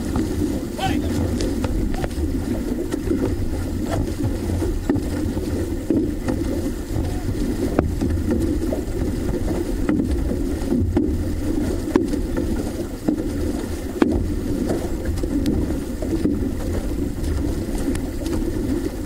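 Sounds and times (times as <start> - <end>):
rush of water and wind: 0.0 - 19.0
light knocks on hull: 0.1 - 18.5.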